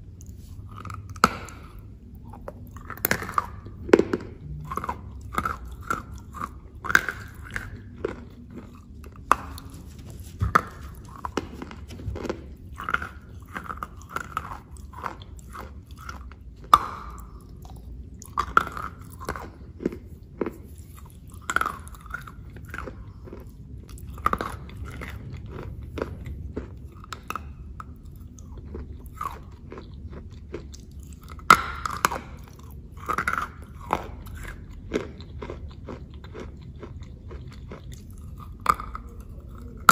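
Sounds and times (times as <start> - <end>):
crunchy chewing and biting: 0.0 - 39.9.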